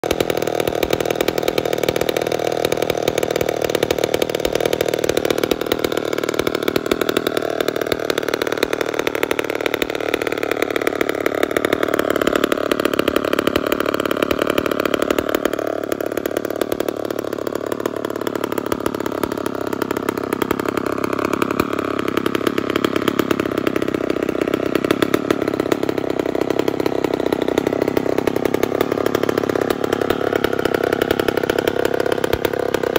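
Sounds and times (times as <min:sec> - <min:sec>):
chainsaw idling: 0:00.0 - 0:32.9.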